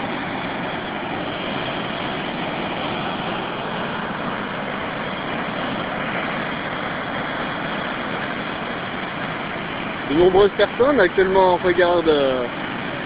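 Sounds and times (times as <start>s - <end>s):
river rushing through white water: 0.0s - 13.0s.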